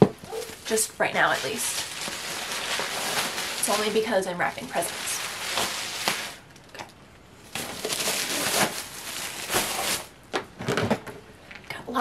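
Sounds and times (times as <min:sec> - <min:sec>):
gift wrapping rustling and crinkling: 0:00.2 - 0:10.9.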